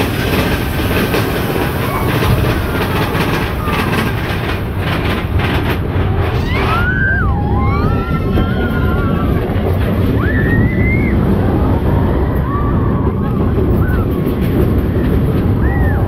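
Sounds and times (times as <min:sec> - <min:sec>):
roller coaster cars rattling: 0:00.0 - 0:16.0.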